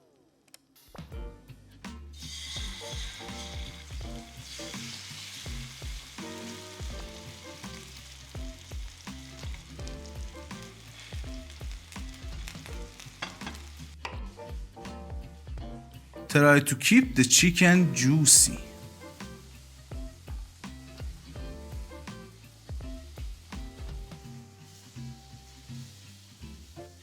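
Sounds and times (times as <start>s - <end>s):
background music: 0.0s - 27.0s
meat sizzling in a pan: 2.2s - 14.8s, 17.5s - 27.0s.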